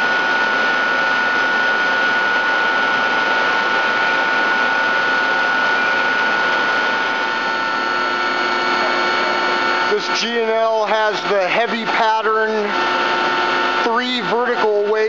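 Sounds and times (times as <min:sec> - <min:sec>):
machine whining tones: 0:00.0 - 0:15.0
shop machinery drone: 0:00.0 - 0:15.0.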